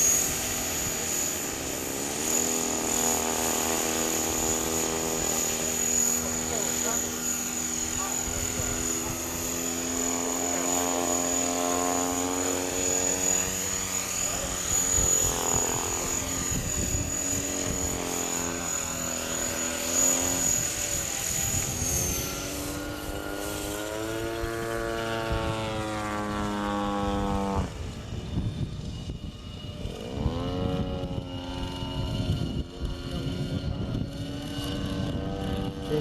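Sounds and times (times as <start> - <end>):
high motor whine: 0.0 - 36.0
model helicopter rotor hum: 0.0 - 36.0.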